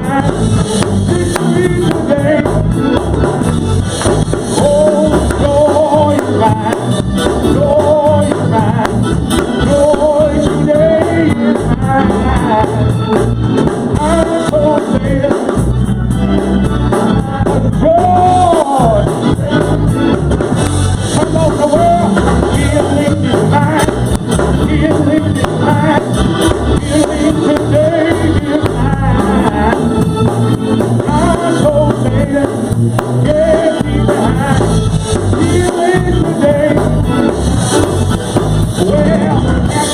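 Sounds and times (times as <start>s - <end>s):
gospel singing with instruments: 0.0s - 39.9s.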